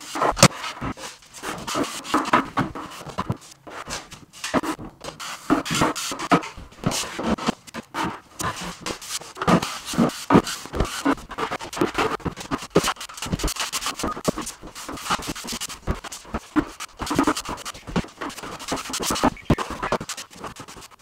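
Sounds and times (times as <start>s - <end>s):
putty knife scraping compound: 0.0s - 21.0s.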